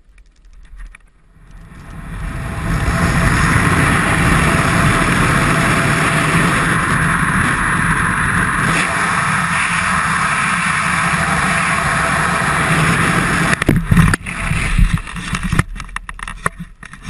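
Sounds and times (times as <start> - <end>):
wind rushing over microphone: 1.3 - 16.6.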